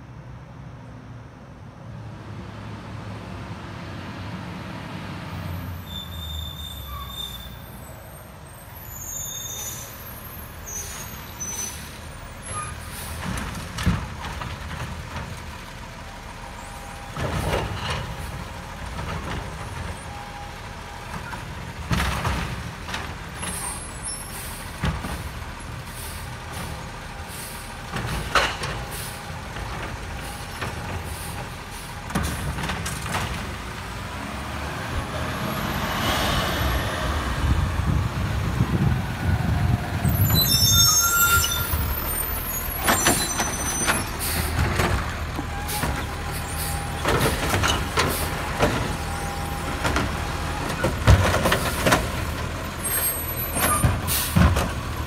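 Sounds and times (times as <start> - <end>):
brake squeals: 5.3 - 34.4, 35.0 - 55.0.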